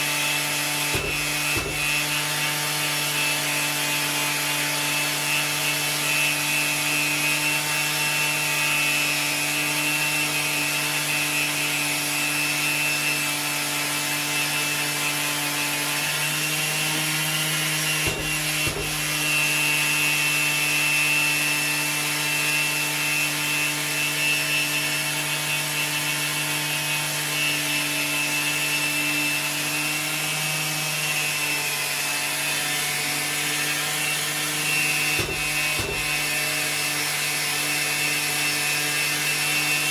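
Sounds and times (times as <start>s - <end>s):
orbital sander motor hum: 0.0s - 39.9s.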